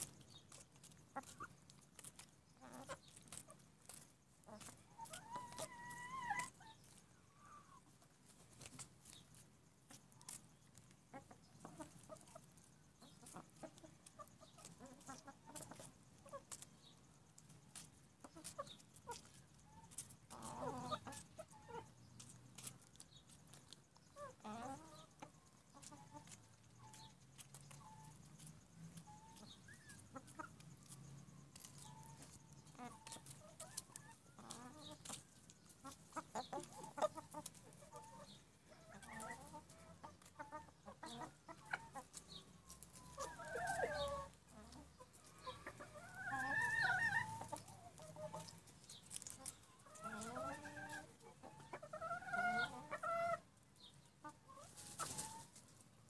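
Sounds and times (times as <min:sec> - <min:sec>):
hens clucking and calling: 0:00.0 - 0:56.0.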